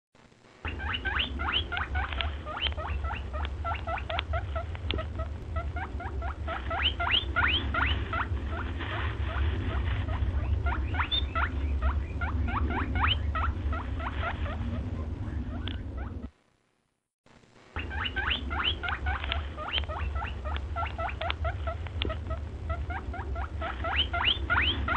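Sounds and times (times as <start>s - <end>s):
steady low hum: 0.2s - 24.9s
small animals squeaking: 0.6s - 16.3s, 17.8s - 24.9s.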